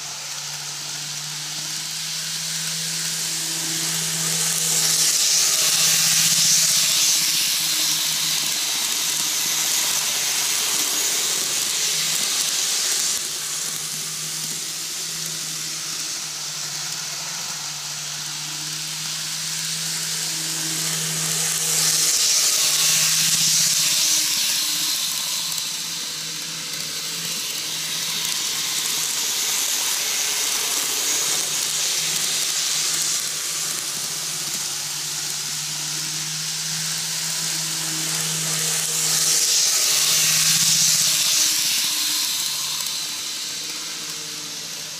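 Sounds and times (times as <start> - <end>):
model train wheels hissing on track: 0.0 - 44.9.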